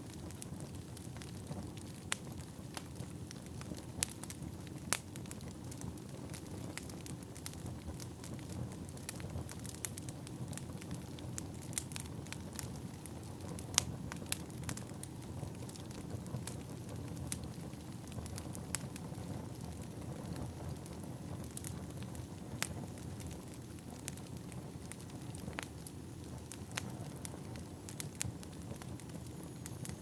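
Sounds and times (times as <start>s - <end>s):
firewood crackling and popping: 0.0s - 30.0s
low rumble of flames: 0.0s - 30.0s.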